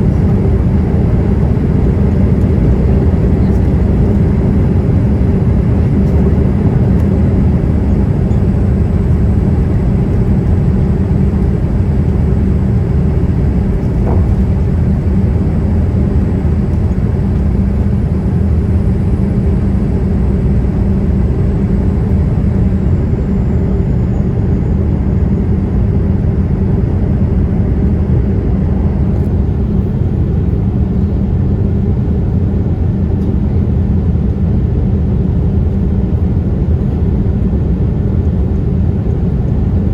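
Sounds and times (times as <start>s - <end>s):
airliner engine roar in cabin: 0.0s - 39.9s.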